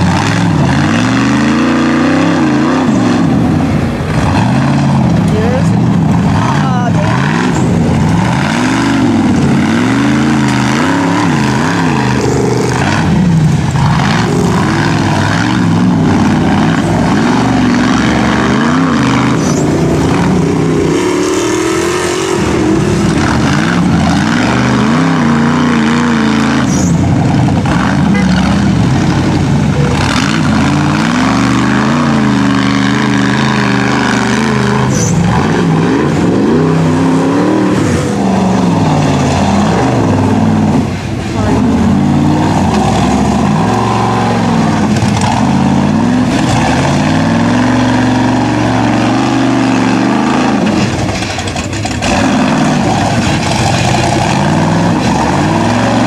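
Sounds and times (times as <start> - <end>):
buggy engines revving hard: 0.0 - 56.0.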